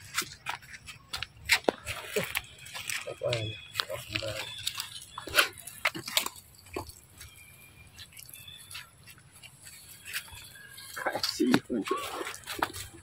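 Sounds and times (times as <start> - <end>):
crackles and crunches in dry leaves: 0.0 - 13.0.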